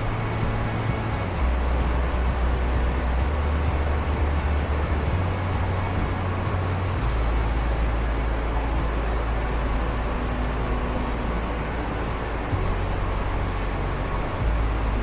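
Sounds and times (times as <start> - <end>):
deep rumble of water: 0.0 - 15.0.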